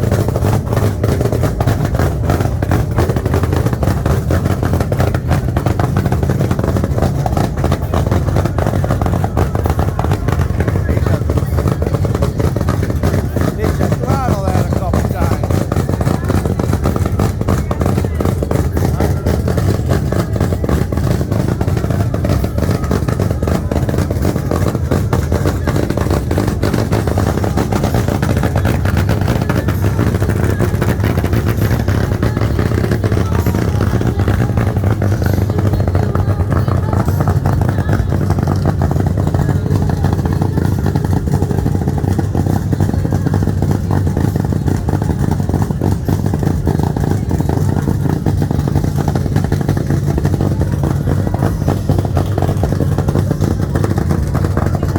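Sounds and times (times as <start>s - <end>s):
loud vehicle engine idling: 0.0s - 54.9s.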